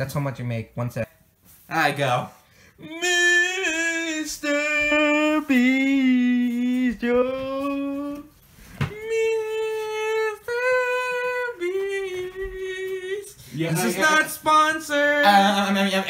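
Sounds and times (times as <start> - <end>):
person singing slow tune: 2.7 - 15.7.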